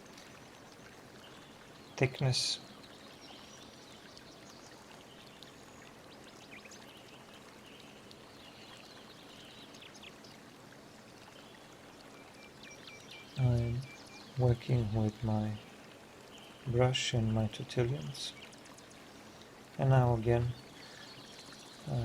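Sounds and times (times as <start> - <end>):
faint room tone hiss: 0.0 - 22.0.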